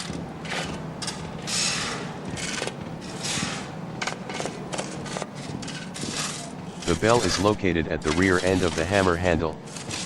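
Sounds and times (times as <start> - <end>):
tool scraping on forge hammer: 0.0 - 10.0.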